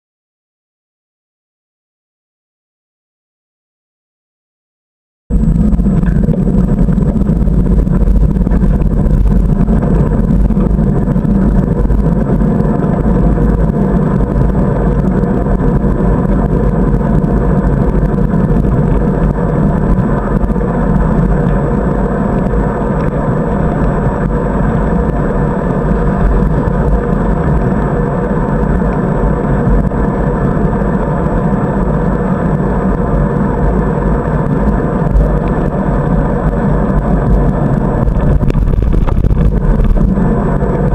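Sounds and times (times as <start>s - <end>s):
muffled wind rumble: 5.3s - 40.9s.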